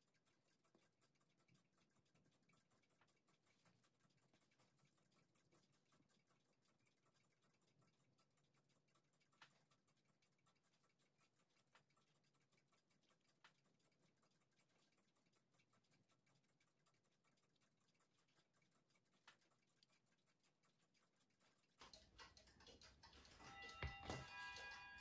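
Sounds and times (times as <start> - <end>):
faint fast clicking: 0.0 - 25.0.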